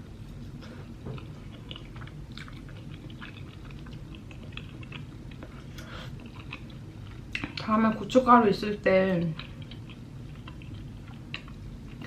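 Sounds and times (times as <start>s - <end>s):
low steady hum: 0.0s - 12.0s
wet chewing mouth sounds: 0.4s - 7.7s, 9.2s - 12.0s.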